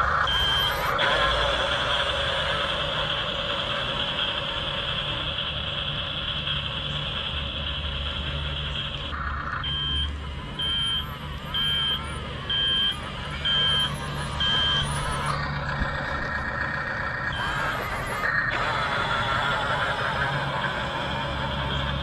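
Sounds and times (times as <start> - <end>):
electric motors humming: 0.0 - 22.0
short reversing beeps: 0.2 - 5.2, 8.3 - 22.0.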